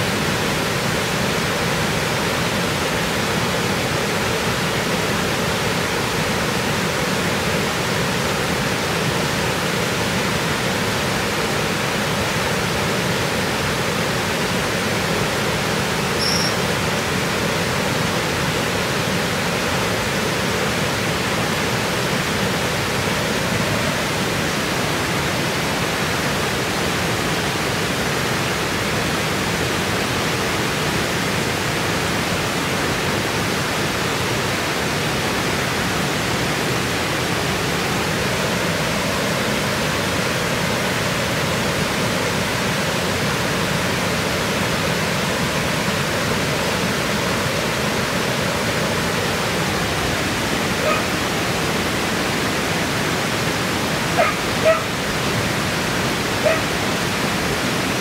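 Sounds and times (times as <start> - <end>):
water rushing over a weir: 0.0 - 58.0.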